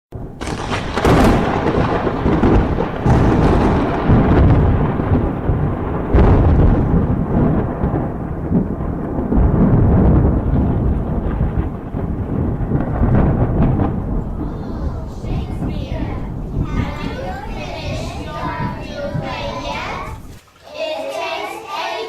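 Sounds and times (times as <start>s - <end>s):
thunder cracks: 0.1s - 20.4s
thunder rumbling: 0.1s - 20.4s.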